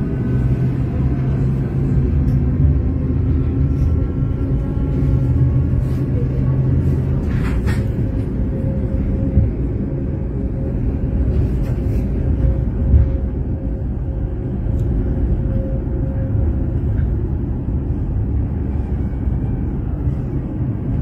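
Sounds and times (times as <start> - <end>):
tram wheels and motors rumbling: 0.0 - 21.0.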